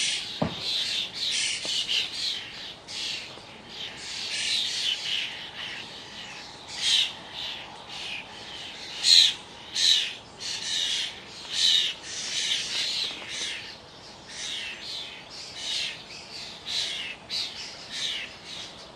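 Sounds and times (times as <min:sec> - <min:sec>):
distant road hum: 0:00.0 - 0:18.9
starlings squawking and chattering: 0:00.0 - 0:18.9.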